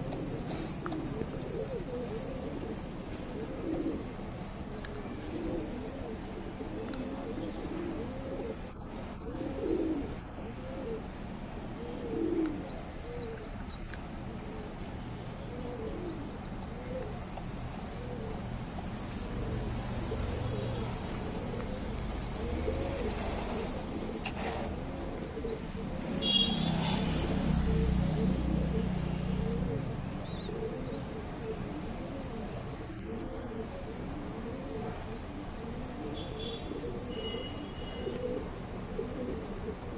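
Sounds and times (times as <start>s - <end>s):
small birds chirping: 0.0s - 10.4s, 12.3s - 33.7s, 34.6s - 38.2s
pigeons cooing: 0.0s - 39.9s.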